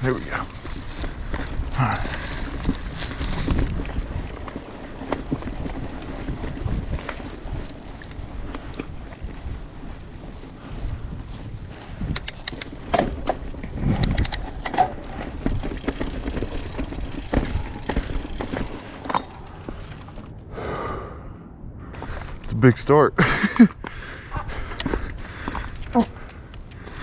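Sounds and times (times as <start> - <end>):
bike tyres rolling over rock: 0.0 - 12.1, 12.7 - 20.4, 24.8 - 27.0
bike knocking and rattling: 0.0 - 20.4, 24.6 - 27.0.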